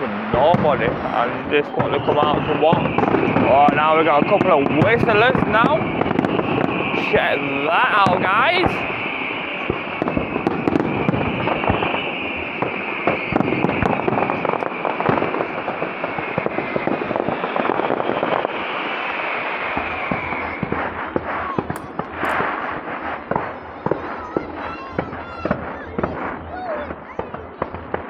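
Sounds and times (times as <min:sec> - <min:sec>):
firework bangs: 0:00.0 - 0:28.0
firework whistle: 0:00.0 - 0:28.0
fireworks crackling: 0:00.0 - 0:28.0.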